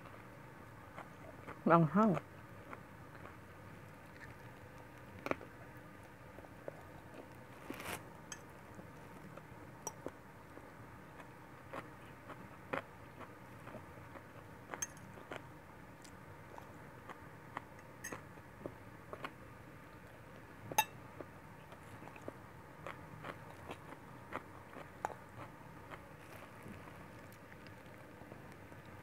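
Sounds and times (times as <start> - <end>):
person chewing: 0.8 - 1.6, 2.6 - 29.0.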